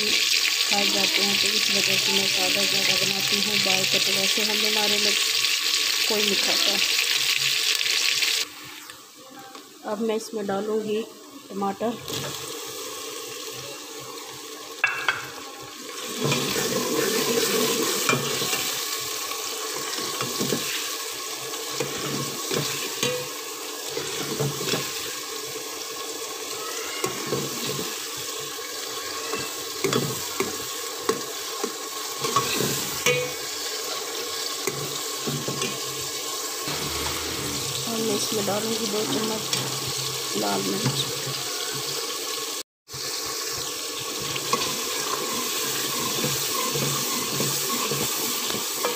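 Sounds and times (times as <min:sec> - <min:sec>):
vegetables sizzling in a pot: 0:00.0 - 0:48.9.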